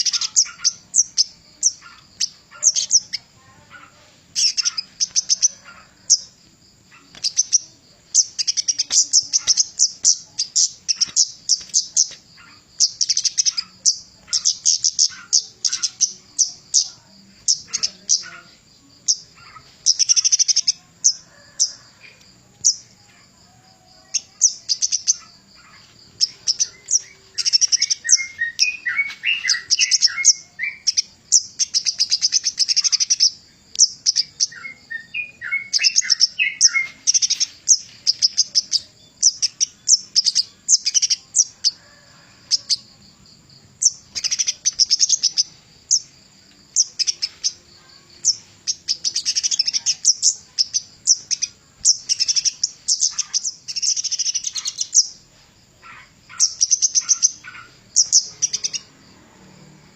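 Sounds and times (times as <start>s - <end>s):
bird high-pitched chattering: 0.0s - 23.2s, 23.9s - 42.9s, 43.7s - 46.1s, 46.7s - 58.9s.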